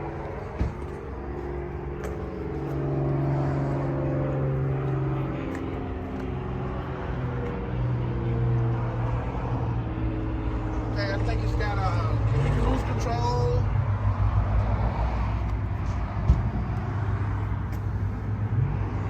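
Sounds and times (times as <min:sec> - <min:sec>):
diesel truck engine idling: 0:00.0 - 0:18.5.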